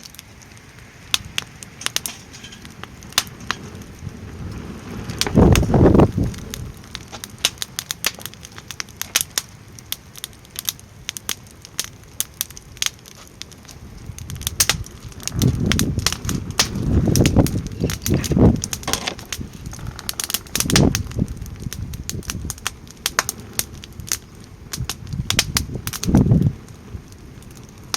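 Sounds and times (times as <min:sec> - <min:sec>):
wood fire crackling and popping: 0:00.0 - 0:27.9
wind buffeting microphone: 0:00.5 - 0:11.6, 0:12.4 - 0:27.9.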